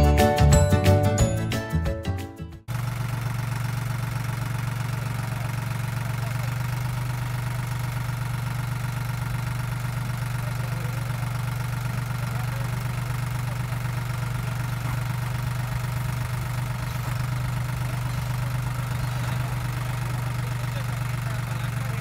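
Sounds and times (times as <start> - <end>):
tractor diesel engine running: 2.6 - 22.0.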